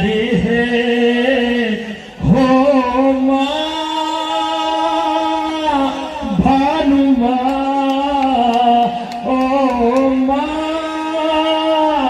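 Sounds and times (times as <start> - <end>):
man singing through microphone: 0.0 - 12.0.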